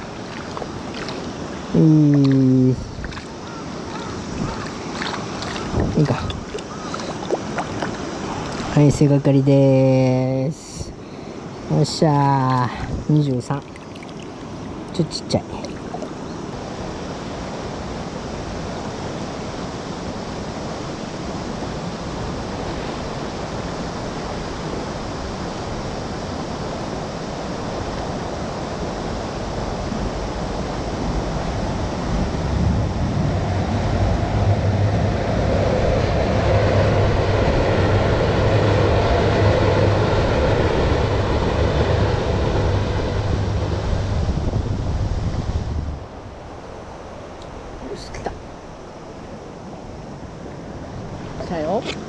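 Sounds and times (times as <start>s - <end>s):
rushing river water: 0.0s - 52.0s.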